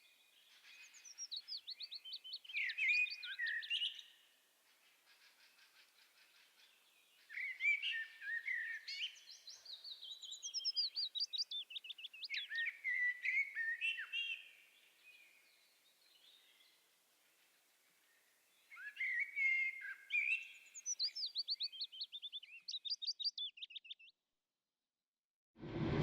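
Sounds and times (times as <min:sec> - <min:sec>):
songbirds singing: 0:00.0 - 0:24.2.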